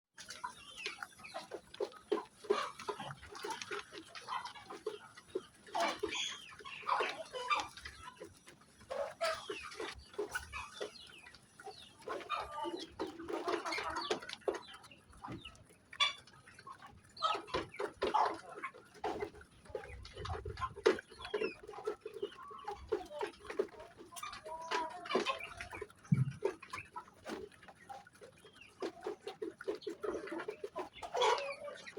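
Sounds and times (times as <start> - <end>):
chickens clucking: 0.2 - 31.9.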